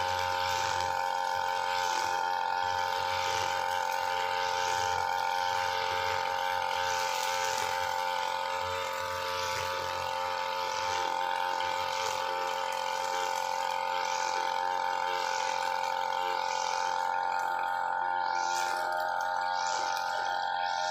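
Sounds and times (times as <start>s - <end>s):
brushcutter running at high revs: 0.0s - 20.9s
trimmer line swishing through grass: 0.0s - 20.9s.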